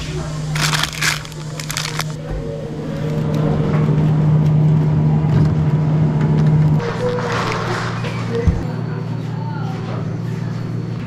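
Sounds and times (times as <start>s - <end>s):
refrigeration unit hum: 0.0s - 11.0s.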